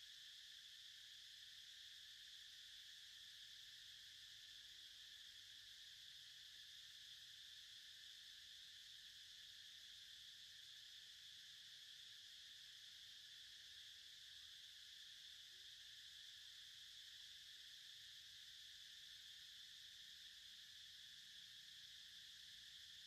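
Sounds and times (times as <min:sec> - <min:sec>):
insect drone: 0:00.0 - 0:23.0.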